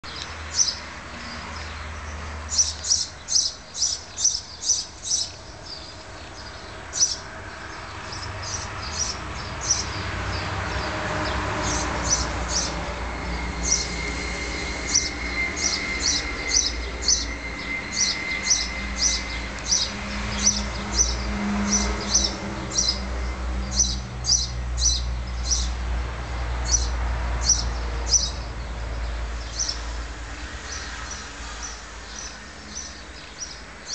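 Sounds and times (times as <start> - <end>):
bird chirping: 0.0 - 25.8, 26.6 - 33.9.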